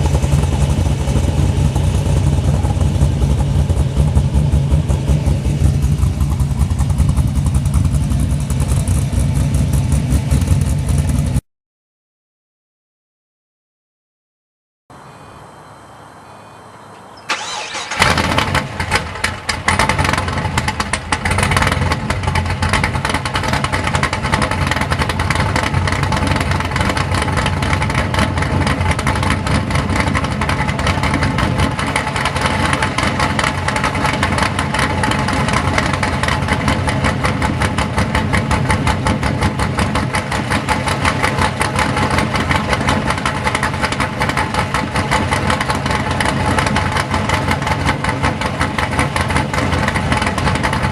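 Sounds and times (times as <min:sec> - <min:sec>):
car engine cranking and starting: 0:00.0 - 0:11.4, 0:17.1 - 0:50.9
car engine idling: 0:00.0 - 0:11.4, 0:16.2 - 0:50.9.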